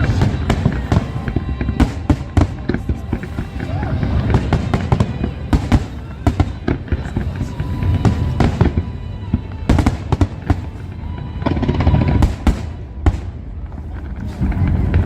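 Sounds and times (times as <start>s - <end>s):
fireworks bangs: 0.0s - 15.0s
low rumble: 0.0s - 15.0s.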